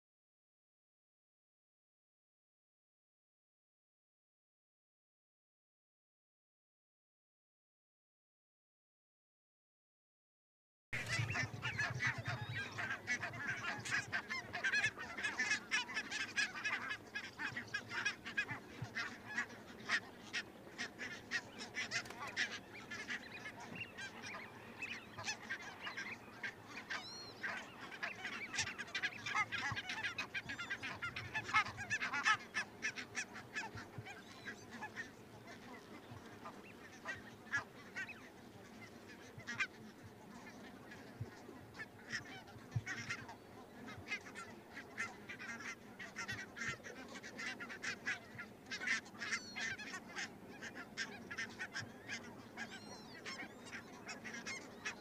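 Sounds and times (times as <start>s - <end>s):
geese calling: 11.0s - 55.0s.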